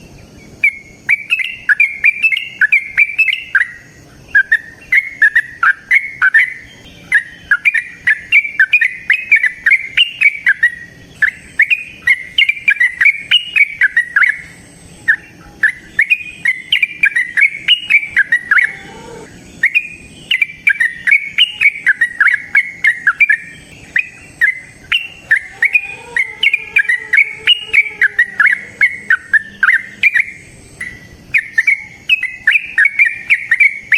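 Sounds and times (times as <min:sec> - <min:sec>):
bird singing bubbling song: 0:00.0 - 0:33.9.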